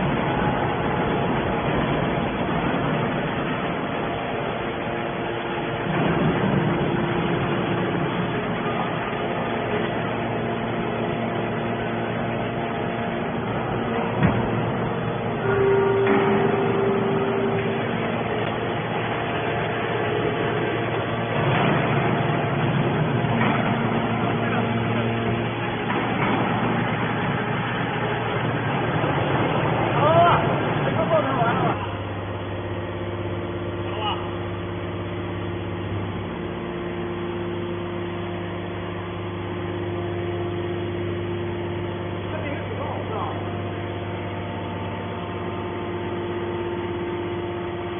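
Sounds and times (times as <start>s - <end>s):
faint steady hums: 0.0s - 47.9s
machinery drone: 0.0s - 47.9s.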